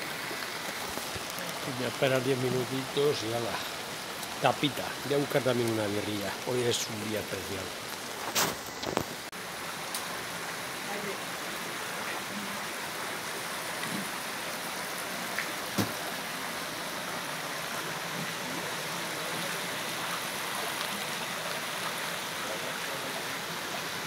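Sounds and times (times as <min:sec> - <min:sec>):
rain hissing: 0:00.0 - 0:24.0
stream rushing over rocks: 0:00.0 - 0:24.0.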